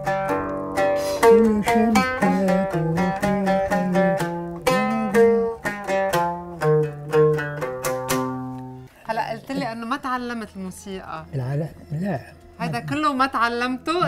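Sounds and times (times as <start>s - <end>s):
oud plucked melody: 0.0s - 14.0s.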